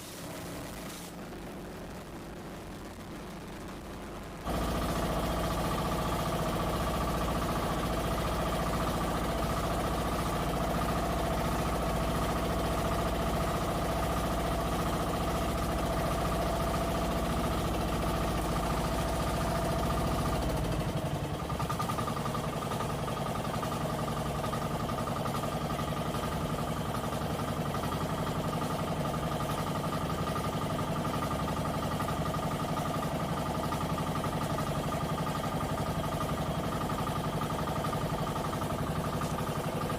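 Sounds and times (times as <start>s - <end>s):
boat engines running: 4.5s - 39.9s.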